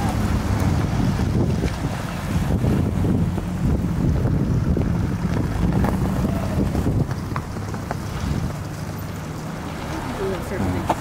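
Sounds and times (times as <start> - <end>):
car engines moving slowly: 0.0 - 11.0
wind buffeting microphone: 0.0 - 11.0.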